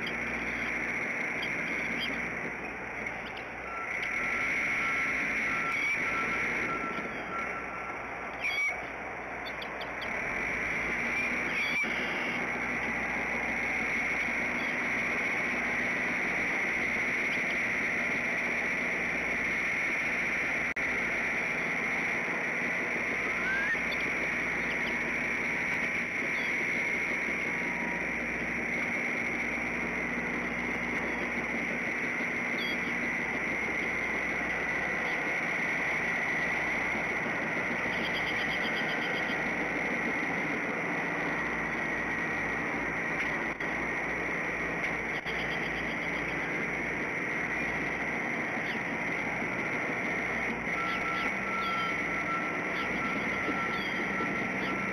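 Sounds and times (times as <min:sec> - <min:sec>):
faint bird chirps: 0:00.0 - 0:10.2, 0:10.9 - 0:18.1, 0:21.6 - 0:28.4, 0:29.0 - 0:42.8, 0:44.1 - 0:48.9, 0:49.8 - 0:54.9
high steady drone: 0:00.0 - 0:54.9.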